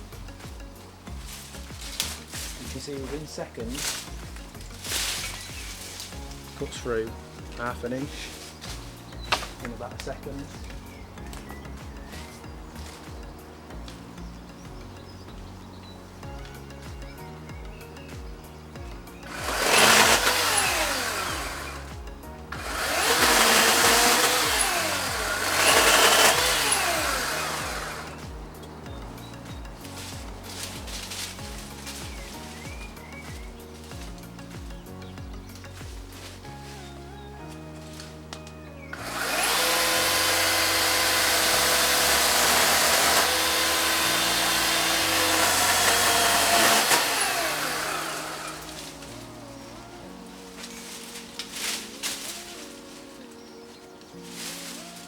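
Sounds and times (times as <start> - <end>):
electric chainsaw cutting branches: 0.0 - 15.6, 16.3 - 55.0
background music: 0.0 - 55.0.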